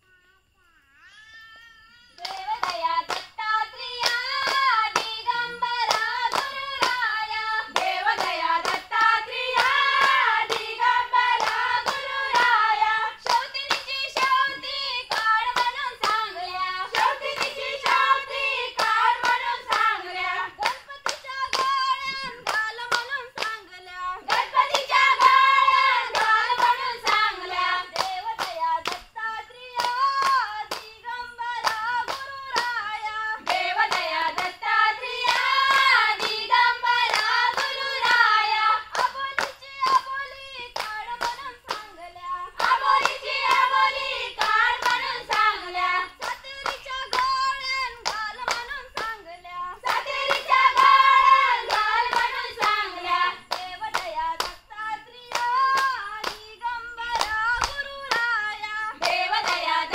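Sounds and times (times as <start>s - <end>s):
hands clapping in rhythm: 2.1s - 59.9s
women singing together: 2.2s - 59.9s.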